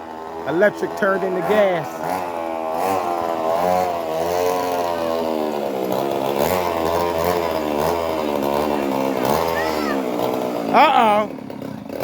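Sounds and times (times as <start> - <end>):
two-stroke engine revving: 0.0 - 12.0.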